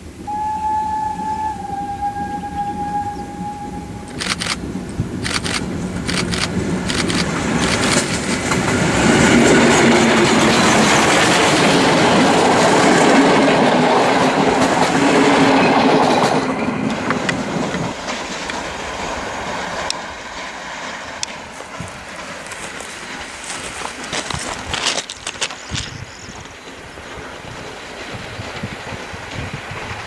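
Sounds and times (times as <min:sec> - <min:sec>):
train wheels clattering on rails: 0:04.1 - 0:30.0.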